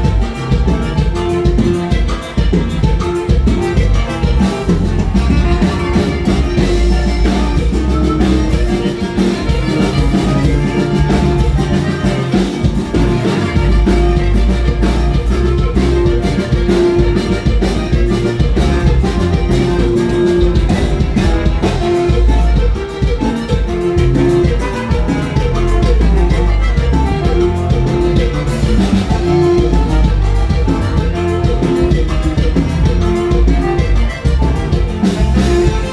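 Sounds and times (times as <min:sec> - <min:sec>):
band playing live: 0:00.0 - 0:35.9
bass: 0:00.0 - 0:35.9.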